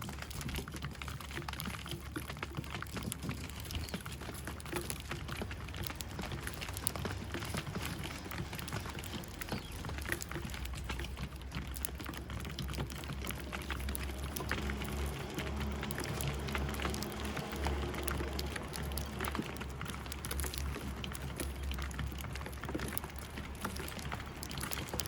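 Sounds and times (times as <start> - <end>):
small sharp taps and ticks: 0.0 - 25.0
low steady rumble: 2.9 - 25.0.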